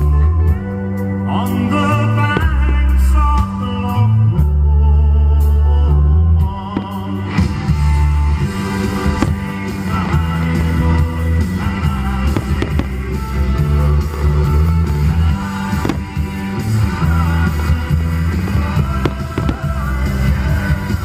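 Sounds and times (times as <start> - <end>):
rock guitar: 0.0 - 4.7, 6.3 - 21.0
person singing: 0.0 - 7.8, 8.5 - 21.0
bass line: 0.0 - 21.0.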